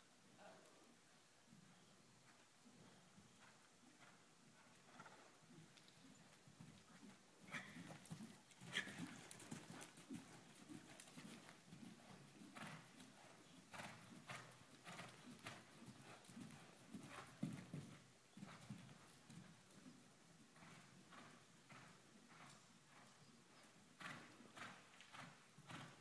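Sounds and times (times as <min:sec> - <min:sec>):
horse hoofbeats on soft dirt: 0:01.5 - 0:26.0.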